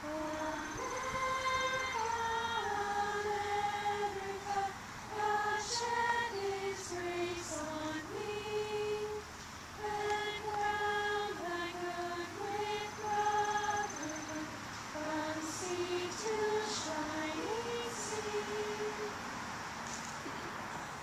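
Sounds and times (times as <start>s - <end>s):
girls singing in unison: 0.0s - 19.4s.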